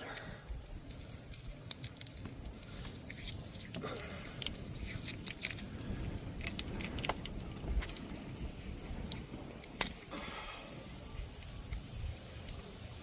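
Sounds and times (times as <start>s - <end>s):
low steady background noise: 0.0s - 13.0s
small clicks and crackles: 0.0s - 13.0s.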